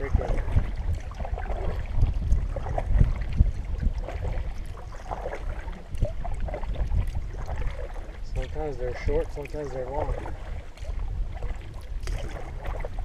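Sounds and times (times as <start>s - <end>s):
paddle splashing water: 0.0s - 13.0s
wind buffeting microphone: 0.0s - 13.0s.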